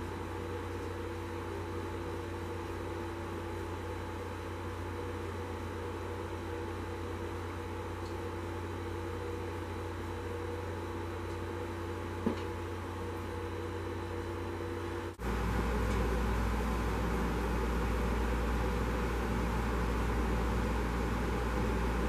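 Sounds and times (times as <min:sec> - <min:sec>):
machine hum with tones: 0:00.0 - 0:22.0.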